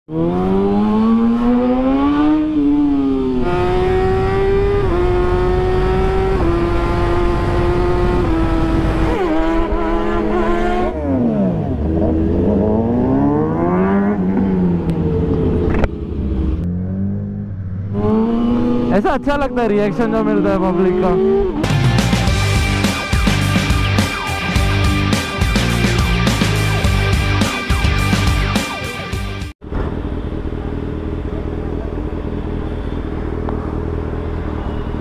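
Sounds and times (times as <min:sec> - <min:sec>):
motorcycle engine revving: 0:00.1 - 0:35.0.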